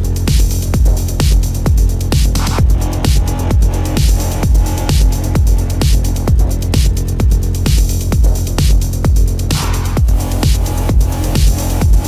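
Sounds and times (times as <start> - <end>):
electronic music with beat: 0.0 - 12.0
kick drum: 0.0 - 12.0.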